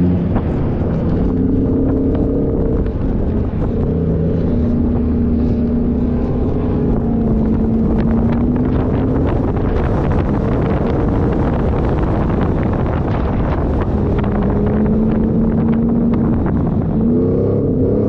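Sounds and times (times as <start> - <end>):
off-road vehicle engine running: 0.0 - 18.0
wind noise on microphone: 0.0 - 18.0.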